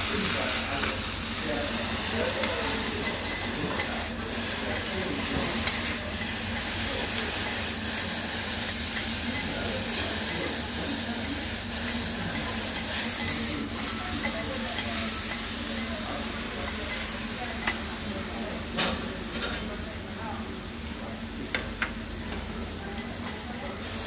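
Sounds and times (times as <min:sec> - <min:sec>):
bean sprouts sizzling on griddle: 0:00.0 - 0:24.0.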